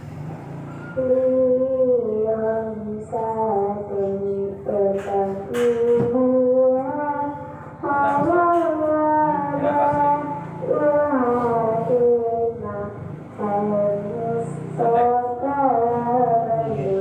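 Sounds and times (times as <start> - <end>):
steady low hum: 0.0 - 17.0
person chanting: 1.0 - 17.0.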